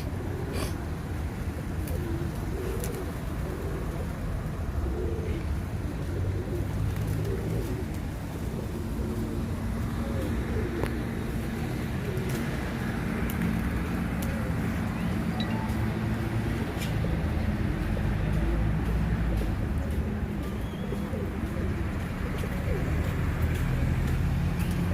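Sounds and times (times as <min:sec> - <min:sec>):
pigeon cooing: 0:00.0 - 0:24.8
traffic hum: 0:00.0 - 0:24.9.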